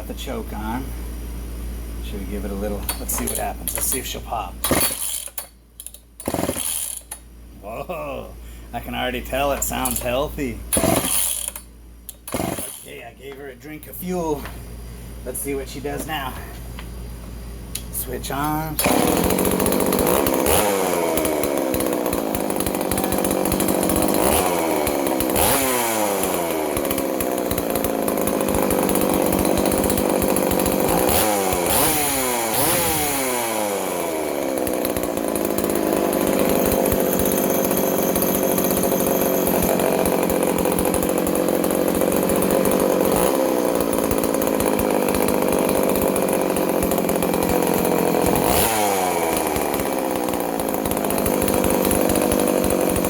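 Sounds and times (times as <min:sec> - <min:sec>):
chainsaw revving and idling: 0:02.2 - 0:14.3, 0:18.1 - 0:53.0.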